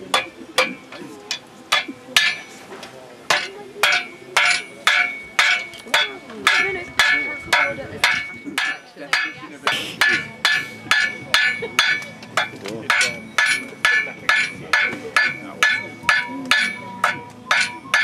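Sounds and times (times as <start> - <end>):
hammer ringing on anvil: 1.7 - 2.6, 3.3 - 18.0.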